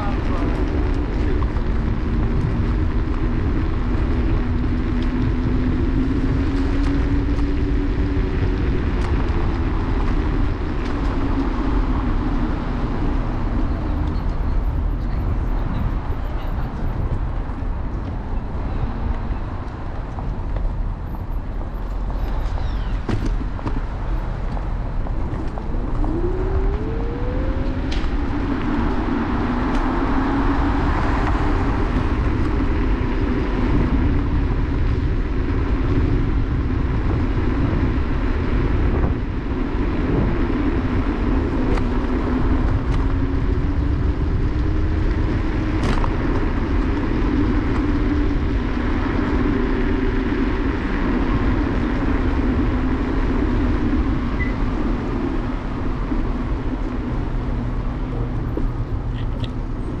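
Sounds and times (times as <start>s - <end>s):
road rumble: 0.0s - 60.0s
wind on microphone: 0.0s - 60.0s.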